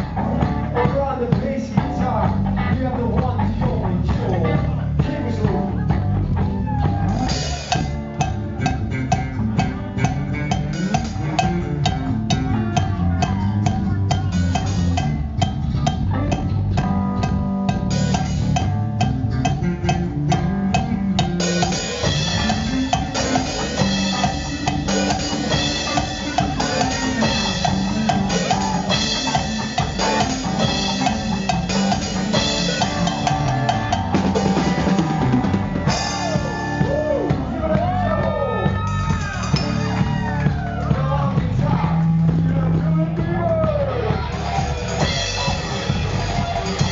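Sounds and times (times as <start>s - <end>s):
bass line: 0.0s - 46.9s
rock music: 0.0s - 46.9s.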